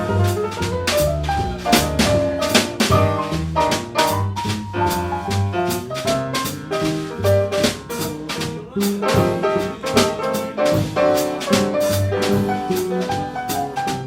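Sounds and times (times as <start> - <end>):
bass line: 0.0 - 14.0
drum kit beat: 0.0 - 14.0
jazz melody: 0.0 - 14.0.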